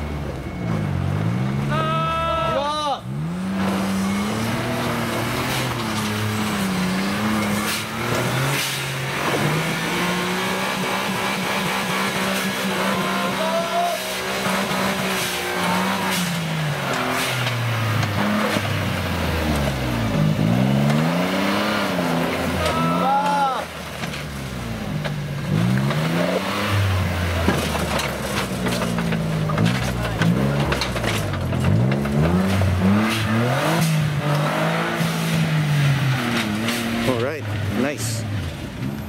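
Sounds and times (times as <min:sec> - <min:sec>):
off-road vehicle engine revving: 0:00.0 - 0:39.0.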